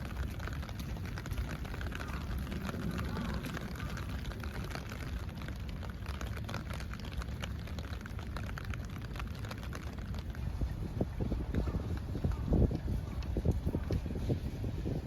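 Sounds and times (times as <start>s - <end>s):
low rain rumble: 0.0s - 15.0s
raindrops ticking: 0.0s - 15.0s.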